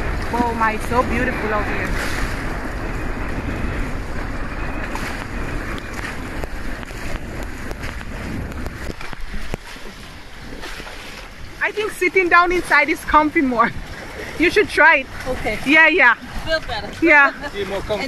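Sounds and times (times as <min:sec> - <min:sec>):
waves rushing past hull: 0:00.0 - 0:18.0
wind buffeting microphone: 0:00.0 - 0:18.0.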